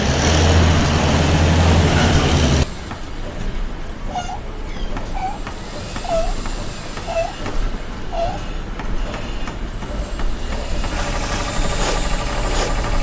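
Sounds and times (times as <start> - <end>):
loud machine rumble: 0.0 - 13.0
short squeak: 0.9 - 12.8.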